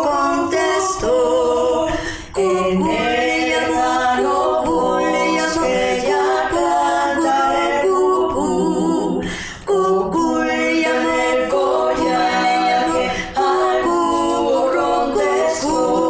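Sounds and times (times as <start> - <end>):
women singing in harmony: 0.0 - 16.0.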